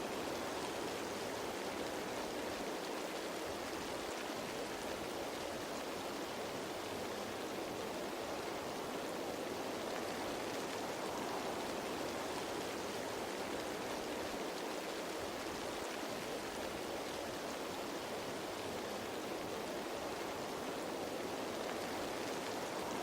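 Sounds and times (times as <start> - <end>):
rain falling on leaves: 0.0 - 23.0.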